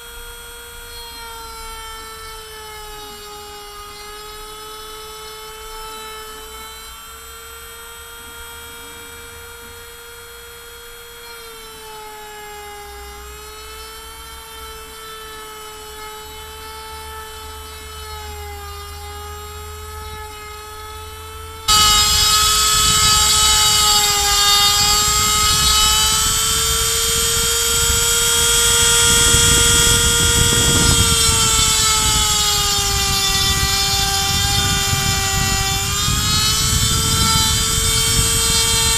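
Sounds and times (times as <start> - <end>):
rotary tool high whine: 0.0 - 38.9
bit rasping through wood: 0.8 - 38.9.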